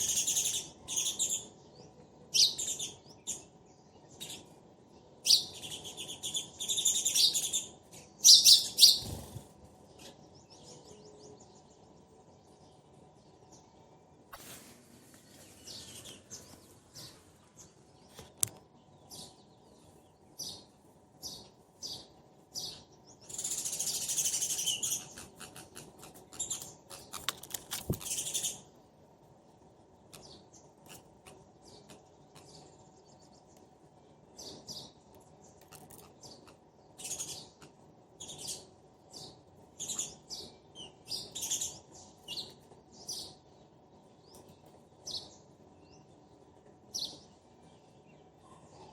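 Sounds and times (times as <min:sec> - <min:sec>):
sparrows chirping: 0:00.0 - 0:14.3, 0:15.0 - 0:48.9.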